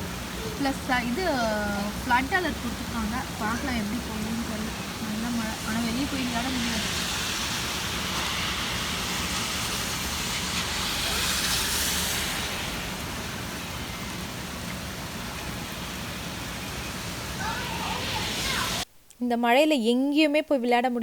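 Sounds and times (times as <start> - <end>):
heavy rain hissing: 0.0 - 18.9.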